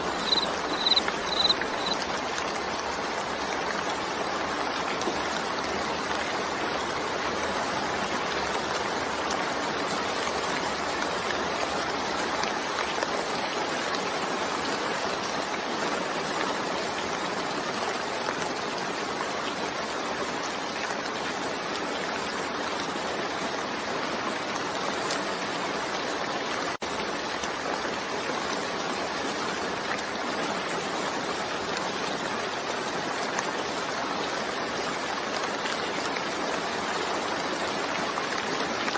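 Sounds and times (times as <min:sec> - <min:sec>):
dense rainfall: 0:00.0 - 0:38.9.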